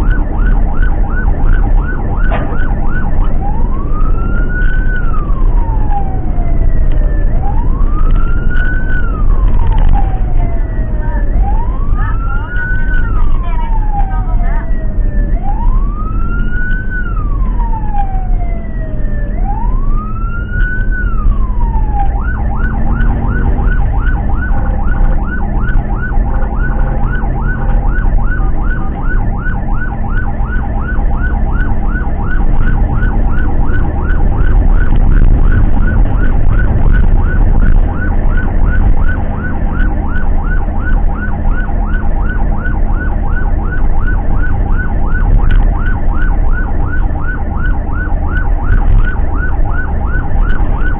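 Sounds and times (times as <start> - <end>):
ambulance siren wailing and yelping: 0.0 - 50.9
van engine and road noise: 0.0 - 50.9.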